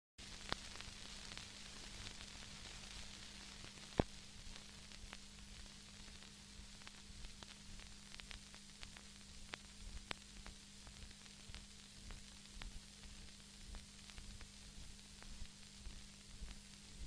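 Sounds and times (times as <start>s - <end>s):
crackles and pops: 0.2s - 17.0s
film soundtrack hiss: 0.2s - 17.0s
low steady hum: 0.2s - 17.0s.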